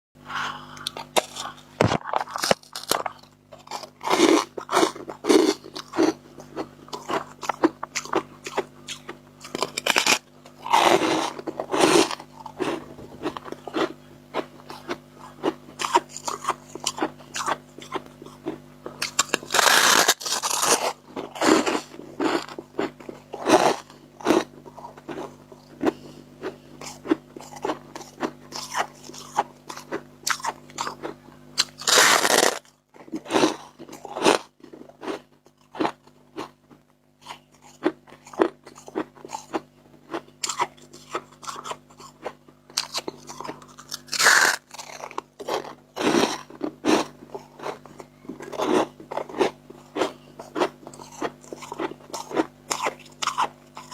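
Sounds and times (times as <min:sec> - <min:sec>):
chewing crunchy frost: 0:00.8 - 0:53.9.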